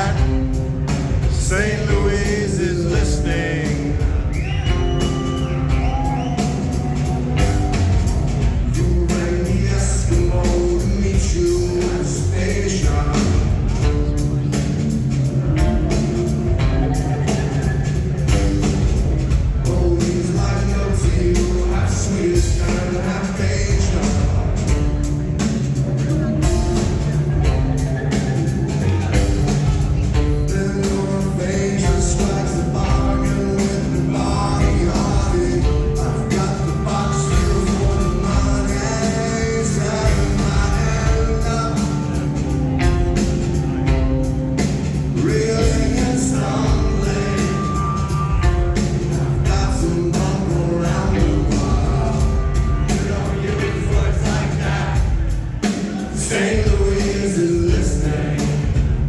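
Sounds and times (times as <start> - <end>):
man singing: 0.0 - 14.6, 15.4 - 43.7, 44.3 - 59.0
rock band playing live: 0.0 - 59.0.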